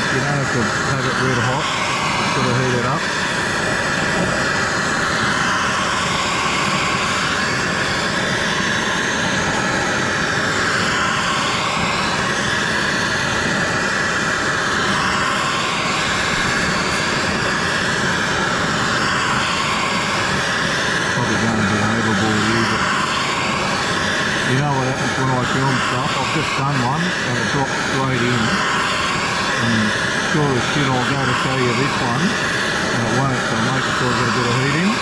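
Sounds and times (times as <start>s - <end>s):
gas torch flame hissing: 0.0s - 35.0s.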